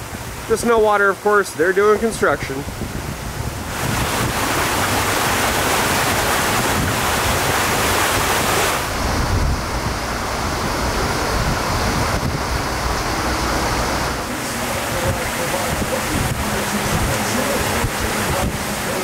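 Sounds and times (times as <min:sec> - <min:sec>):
steady rushing noise: 0:00.0 - 0:19.0
wind buffeting microphone: 0:01.9 - 0:19.0.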